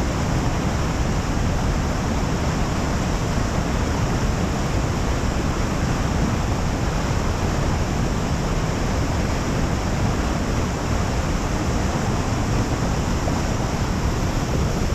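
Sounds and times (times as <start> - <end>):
rushing water roar: 0.0 - 14.9.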